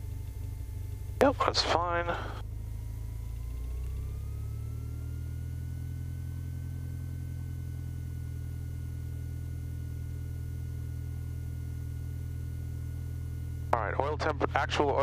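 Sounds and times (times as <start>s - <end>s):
aircraft engine droning: 0.0s - 15.0s
faint whine: 0.0s - 15.0s.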